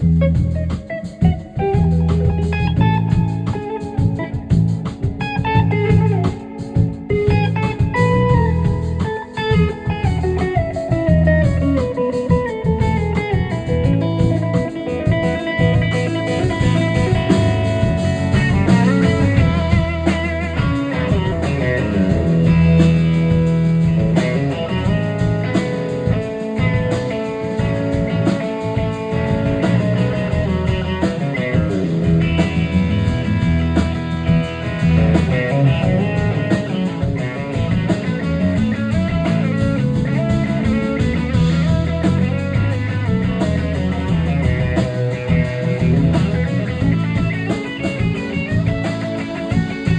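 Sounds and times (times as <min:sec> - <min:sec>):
electric guitar melody: 0:00.0 - 0:49.9
live blues-rock band: 0:00.0 - 0:49.9.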